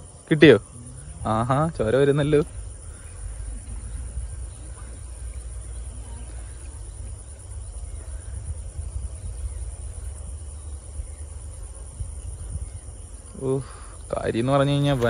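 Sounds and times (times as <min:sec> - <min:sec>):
insects chirring: 0:00.0 - 0:15.0
low steady rumble: 0:00.0 - 0:15.0.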